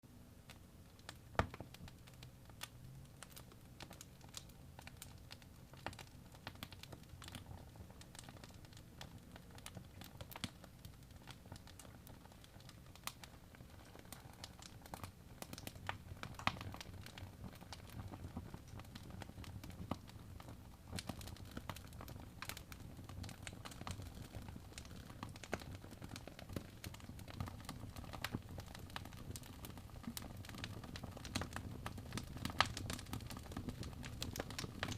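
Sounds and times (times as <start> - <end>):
low steady fire rumble: 0.0 - 34.9
fire crackling and popping: 0.4 - 34.9.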